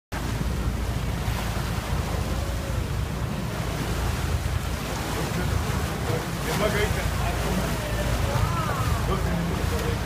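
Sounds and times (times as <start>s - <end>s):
sea waves washing against rocks: 0.2s - 10.0s.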